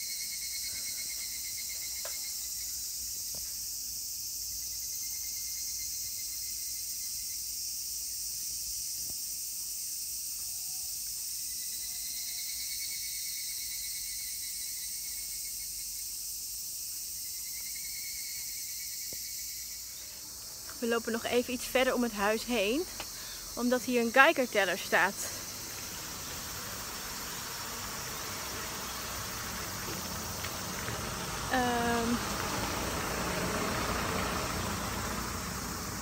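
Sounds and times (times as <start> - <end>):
insects chorus: 0.0 - 36.0.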